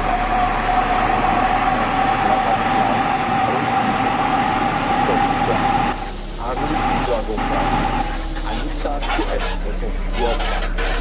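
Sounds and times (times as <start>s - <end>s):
constant whine: 0.0s - 11.0s
truck running noise: 0.0s - 11.0s.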